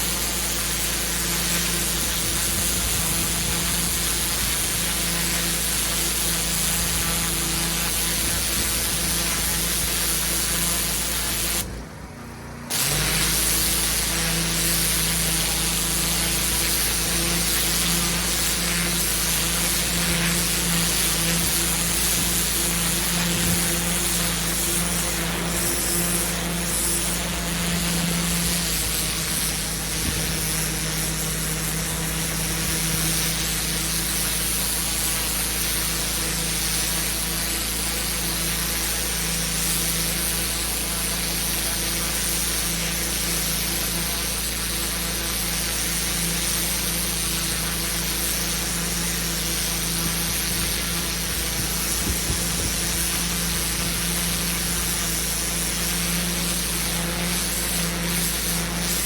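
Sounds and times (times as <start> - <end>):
high-pressure water spray hiss: 0.0 - 11.8, 12.7 - 59.0
pressure washer pump tone: 0.0 - 59.0.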